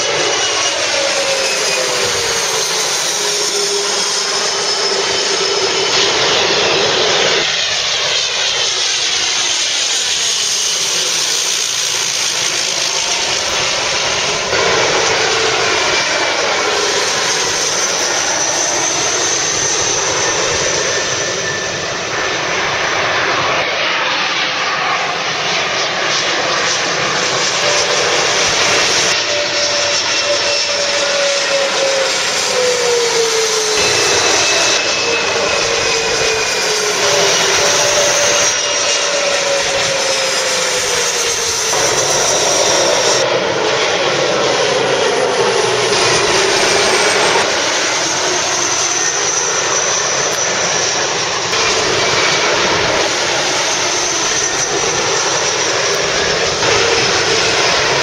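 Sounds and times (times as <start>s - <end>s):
jet engine rush passing overhead: 0.0s - 58.0s
turboprop plane passing overhead: 0.0s - 58.0s.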